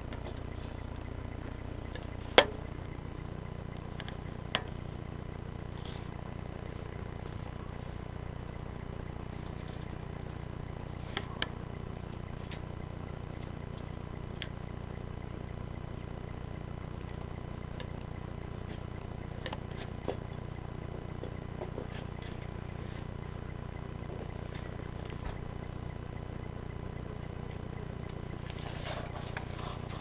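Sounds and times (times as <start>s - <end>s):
car engines idling: 0.0s - 30.0s
faint clicks: 0.0s - 30.0s.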